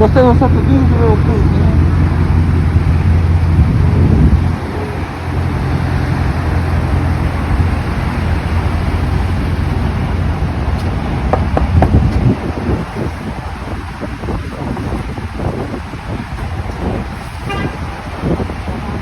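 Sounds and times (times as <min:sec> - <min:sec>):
car engine running: 0:00.0 - 0:17.0
wind buffeting microphone: 0:00.0 - 0:19.0.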